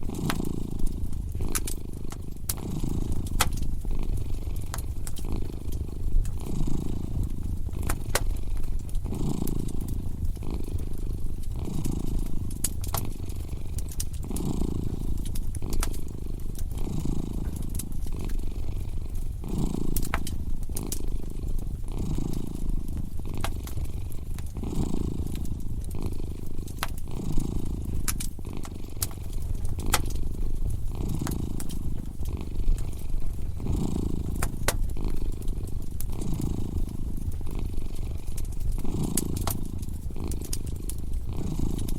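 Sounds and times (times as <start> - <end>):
cat purring: 0.0 - 41.9
fire crackling and popping: 0.0 - 41.9.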